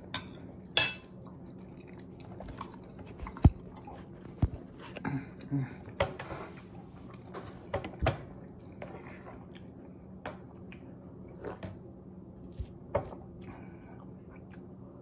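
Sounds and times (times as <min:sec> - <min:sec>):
low room hum: 0:00.0 - 0:15.0
person chewing food: 0:01.2 - 0:07.6, 0:08.5 - 0:11.8, 0:12.4 - 0:14.8.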